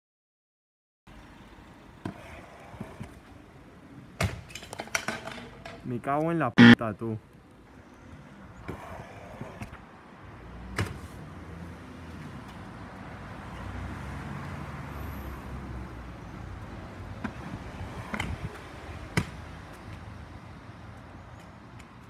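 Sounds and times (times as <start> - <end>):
scooter wheels rolling on concrete: 1.2 - 6.4, 7.3 - 10.4, 11.9 - 22.0.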